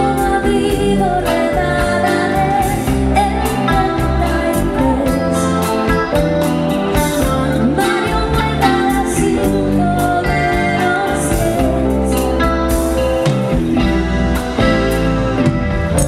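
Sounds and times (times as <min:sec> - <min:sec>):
bass guitar: 0:00.0 - 0:16.0
drum kit beat: 0:00.0 - 0:16.0
electric guitar: 0:00.0 - 0:16.0
keyboards: 0:00.0 - 0:16.0
woman singing lead: 0:00.0 - 0:16.0.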